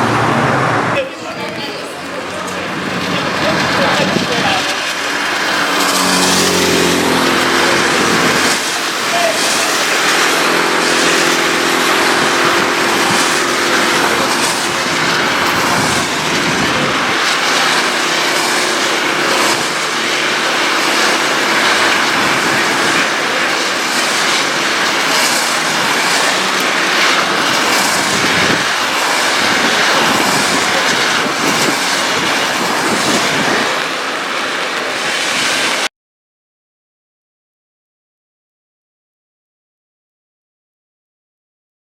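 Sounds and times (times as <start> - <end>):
race car engine: 0.0 - 35.9
hiss of rain and tyre spray: 1.1 - 35.9.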